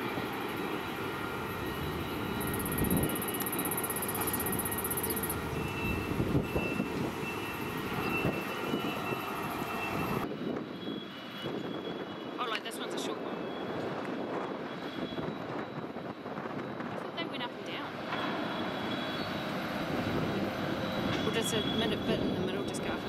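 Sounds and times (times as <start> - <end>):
faint high whining tones: 0.0 - 23.0.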